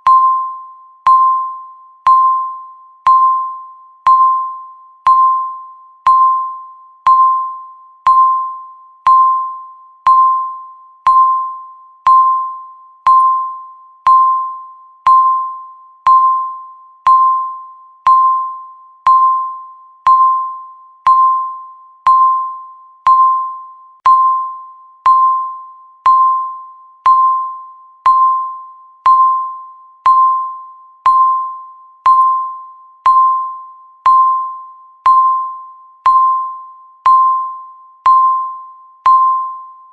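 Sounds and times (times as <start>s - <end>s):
electronic timer beeps: 0.0s - 39.9s.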